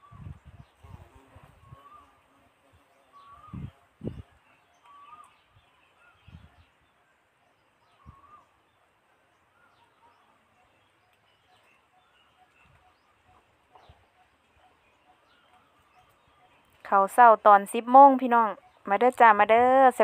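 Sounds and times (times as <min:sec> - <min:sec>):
birds calling faintly: 0:00.0 - 0:20.0.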